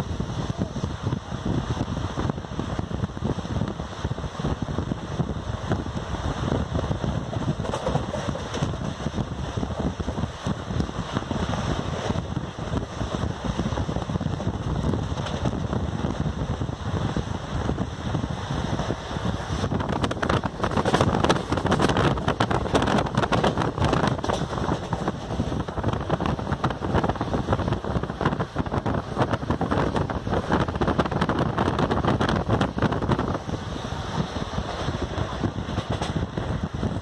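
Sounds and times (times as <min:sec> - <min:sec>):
train running noise: 0:00.0 - 0:37.0
wind buffeting microphone: 0:00.0 - 0:37.0.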